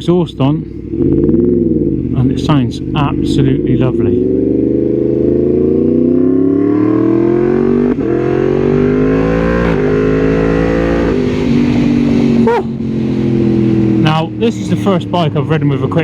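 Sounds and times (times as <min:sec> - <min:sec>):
motorcycle engine accelerating hard: 0:00.7 - 0:16.0.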